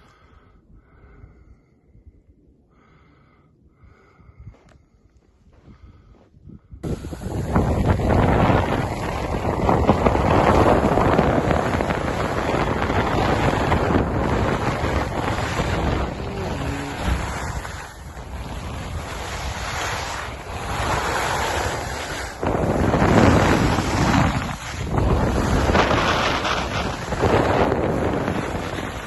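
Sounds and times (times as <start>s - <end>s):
wind buffeting microphone: 3.7s - 29.0s.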